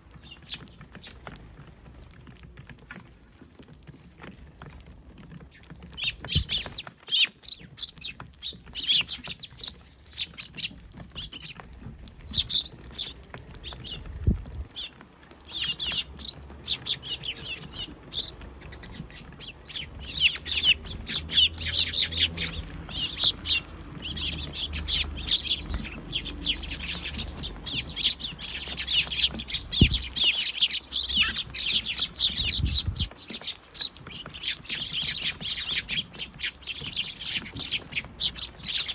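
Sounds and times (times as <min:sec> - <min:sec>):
sparrows chirping: 0:00.0 - 0:02.2, 0:04.5 - 0:38.9.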